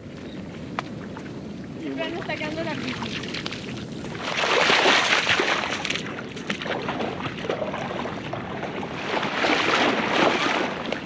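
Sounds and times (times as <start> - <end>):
water sloshing and splashing: 0.9 - 11.0.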